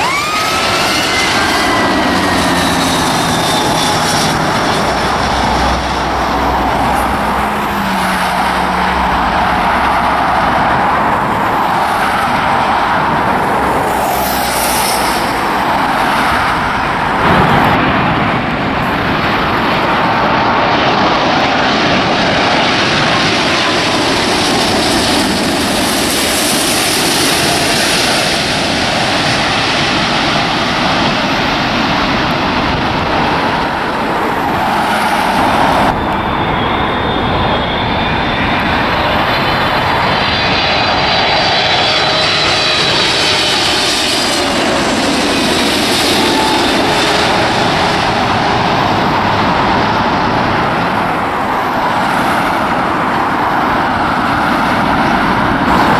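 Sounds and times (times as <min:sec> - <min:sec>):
faint high jet whine: 0:00.0 - 0:55.9
jet airliner passing overhead: 0:00.0 - 0:55.9.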